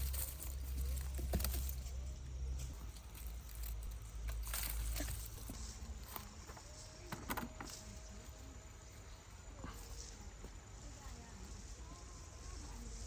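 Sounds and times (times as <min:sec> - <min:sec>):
rustles: 0:00.0 - 0:13.0.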